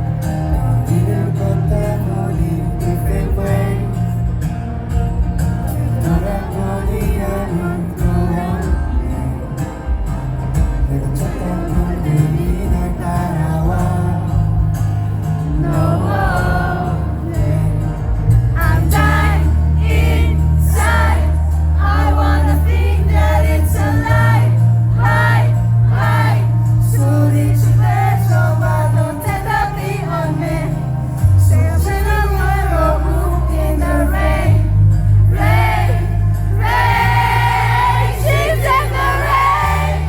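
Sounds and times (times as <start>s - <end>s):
held bass notes: 0.0s - 40.0s
live rock band: 0.0s - 40.0s.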